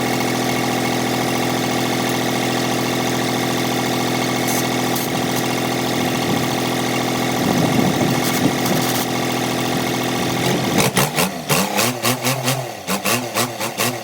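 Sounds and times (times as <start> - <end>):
tractor diesel engine idling: 0.0 - 11.6.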